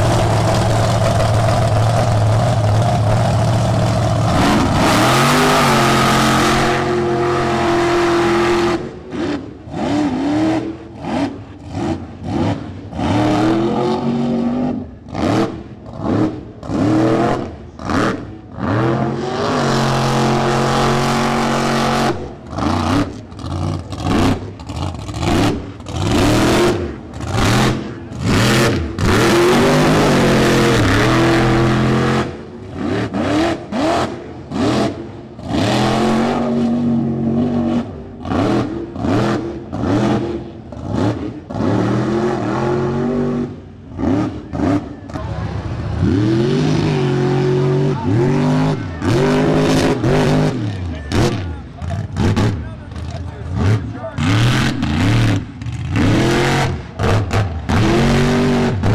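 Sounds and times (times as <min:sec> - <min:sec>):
tires churning through mud: 0:00.0 - 0:58.9
truck engine revving hard: 0:00.0 - 0:58.9.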